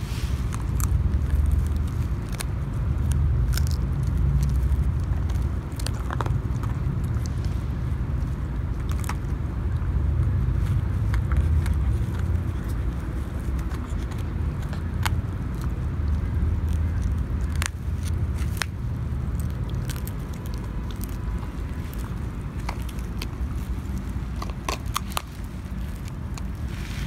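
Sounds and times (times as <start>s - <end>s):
steady low rumble: 0.0s - 27.0s
dogs gnawing bones: 0.3s - 27.0s.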